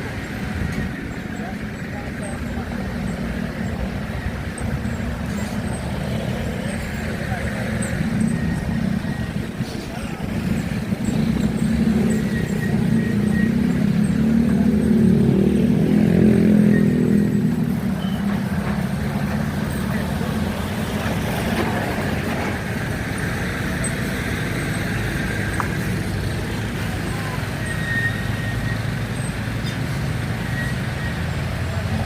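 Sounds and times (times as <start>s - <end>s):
heavy engine passing close: 0.0s - 32.0s
road traffic: 0.0s - 32.0s.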